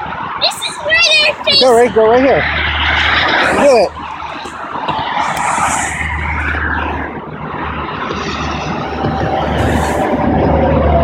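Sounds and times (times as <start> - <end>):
low rumble of truck engines: 0.0 - 11.0
rush of tyres: 0.0 - 11.0.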